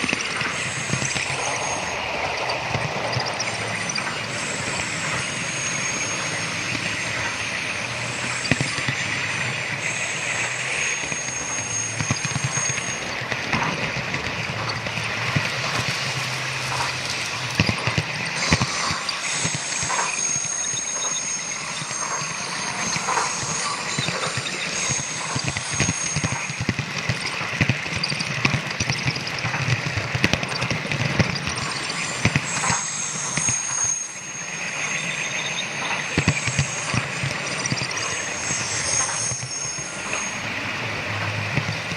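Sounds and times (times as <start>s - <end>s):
high motor whine: 0.0s - 41.9s
model train rolling: 0.0s - 41.9s
wheels clicking over rail joints: 0.0s - 41.9s.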